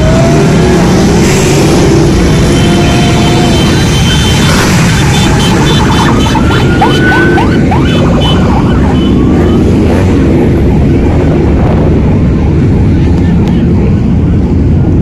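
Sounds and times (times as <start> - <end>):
motorcycles and traffic rumbling: 0.0 - 15.0
wind noise on microphone: 0.0 - 15.0.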